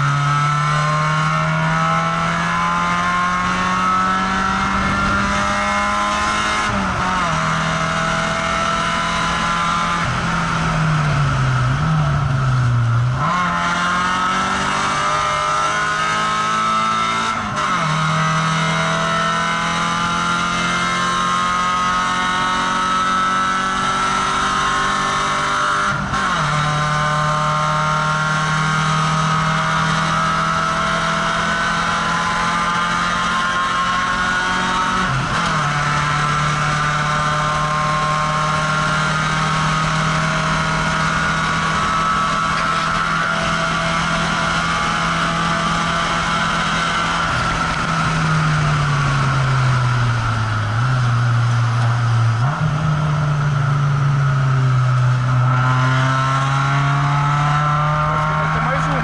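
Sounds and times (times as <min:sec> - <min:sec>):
car engine at high revs: 0:00.0 - 0:59.0
wind and road noise: 0:00.0 - 0:59.0.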